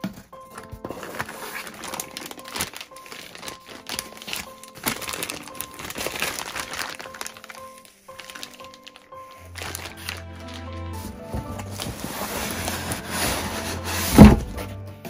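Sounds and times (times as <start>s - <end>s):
packaging crinkling and rustling: 0.0s - 14.4s
background music: 0.0s - 15.0s.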